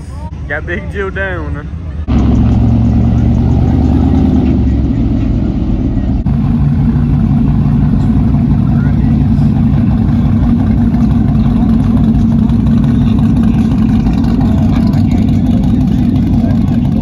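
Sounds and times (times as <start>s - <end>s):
truck engine exhaust drone: 0.0s - 17.0s.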